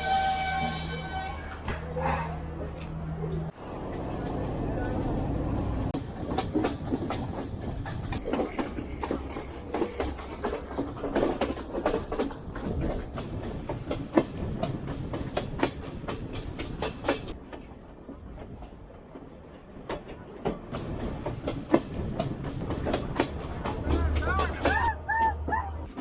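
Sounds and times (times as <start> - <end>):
train low rumble: 0.0 - 26.0
train wheels clacking on rails: 3.9 - 26.0.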